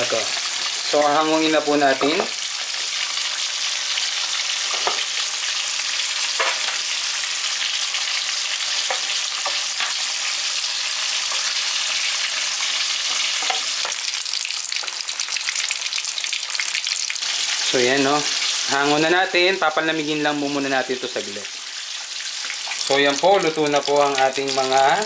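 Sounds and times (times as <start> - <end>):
fish frying in hot oil: 0.0 - 25.0.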